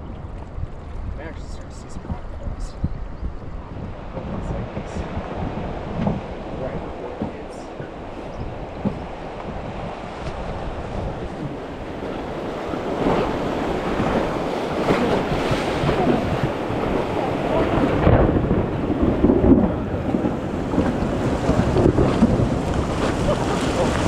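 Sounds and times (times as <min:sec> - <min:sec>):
water rushing: 0:00.0 - 0:24.0
wind buffeting microphone: 0:00.0 - 0:24.0.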